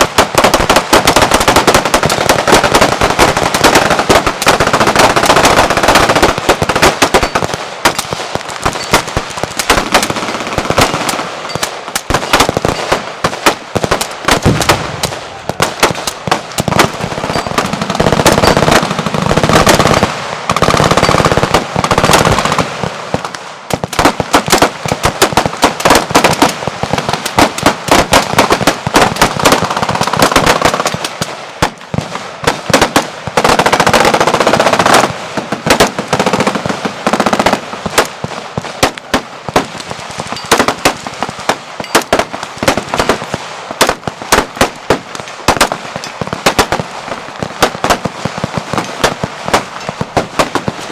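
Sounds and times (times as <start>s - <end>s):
automatic gunfire: 0.0s - 31.8s, 32.4s - 38.2s, 38.8s - 45.8s, 46.4s - 46.8s, 47.5s - 50.9s.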